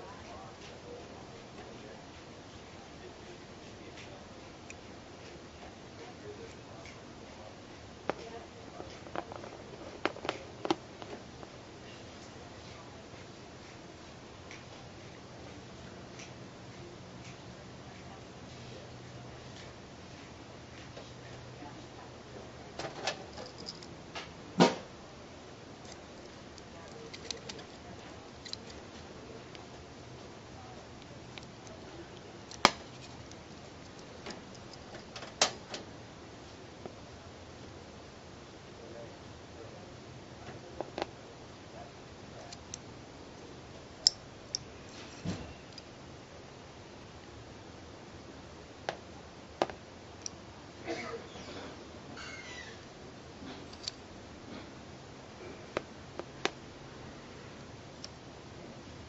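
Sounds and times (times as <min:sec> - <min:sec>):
steady low hiss: 0:00.0 - 0:59.0.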